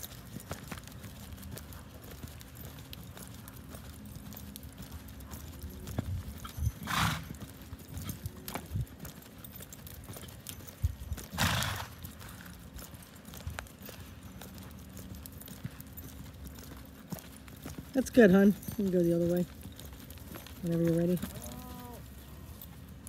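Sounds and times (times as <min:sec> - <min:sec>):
hoofbeats thudding in sand: 0:00.0 - 0:23.0.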